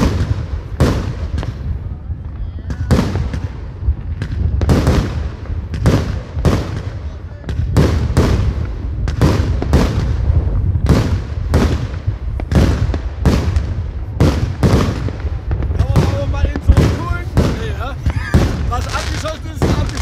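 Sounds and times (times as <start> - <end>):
constant low rumble: 0.0 - 20.0
fireworks launching and bursting: 0.0 - 20.0.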